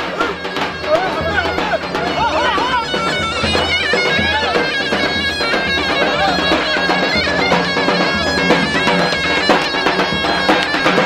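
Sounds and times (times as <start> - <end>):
repeating drum beat: 0.0 - 11.0
shrill reedy melody: 0.0 - 11.0.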